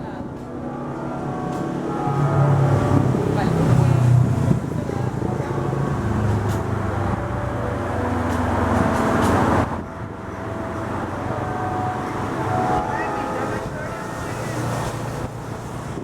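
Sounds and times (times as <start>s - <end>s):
large vehicle engine rumbling: 0.0s - 16.0s
street traffic: 0.0s - 16.0s.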